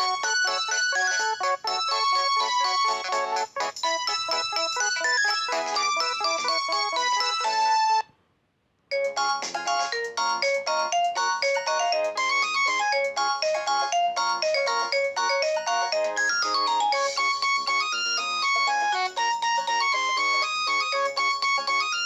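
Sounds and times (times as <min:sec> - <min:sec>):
phone ringtone melody: 0:00.0 - 0:08.0, 0:08.9 - 0:22.0.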